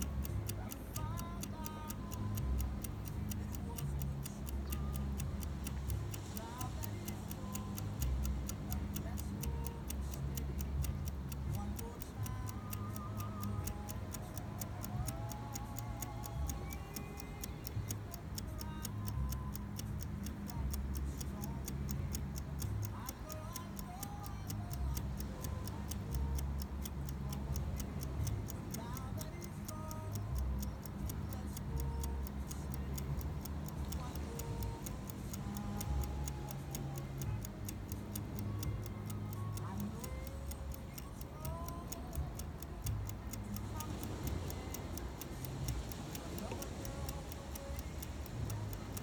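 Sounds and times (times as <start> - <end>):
continuous low rumble: 0.0 - 49.0
rapid steady ticking: 0.0 - 49.0.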